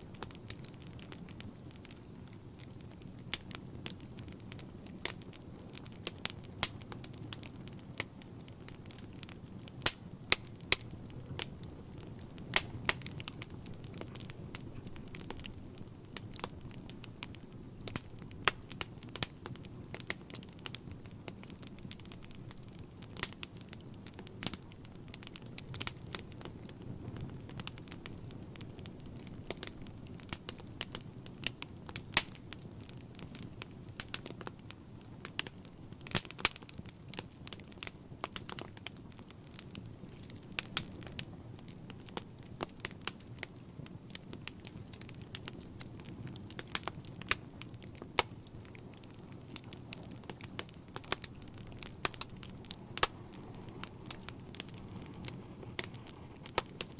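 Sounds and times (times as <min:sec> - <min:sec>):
burning logs crackling and popping: 0:00.0 - 0:56.9
low rumble of flames: 0:00.0 - 0:56.9.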